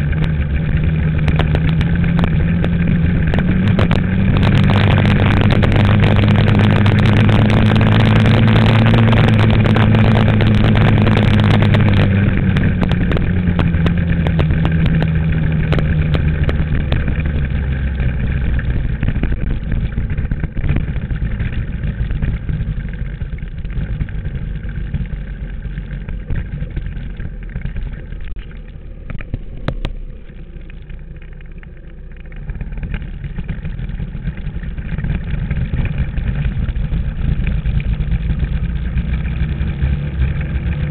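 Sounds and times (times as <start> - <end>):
dirt bike engine: 0.0 - 40.9.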